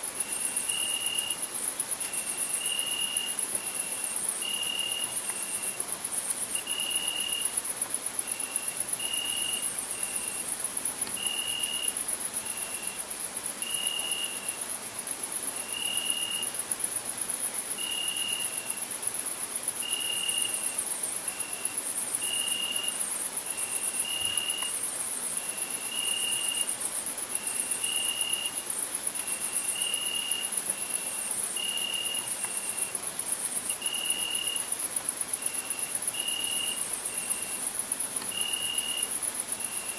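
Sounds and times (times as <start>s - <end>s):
crickets trilling: 0.0s - 39.9s
lower cricket chirp: 0.0s - 39.9s.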